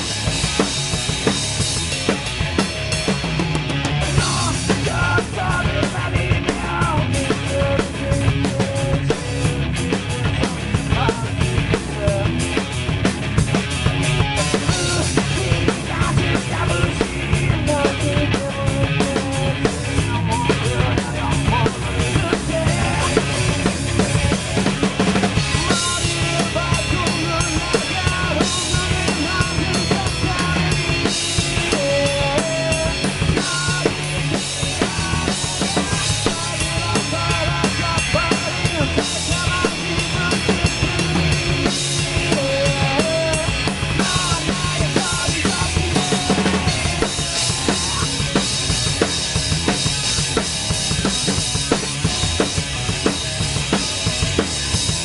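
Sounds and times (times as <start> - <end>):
drum kit: 0.0 - 55.0
electric bass and guitar: 0.0 - 55.0
rock band playing: 0.0 - 55.0.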